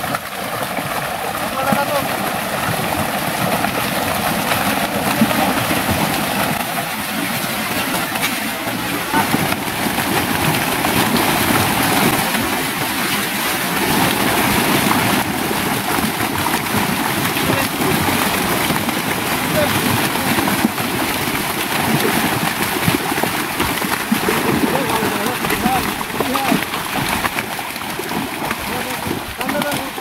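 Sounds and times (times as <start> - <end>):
fish splashing in water: 0.0 - 30.0.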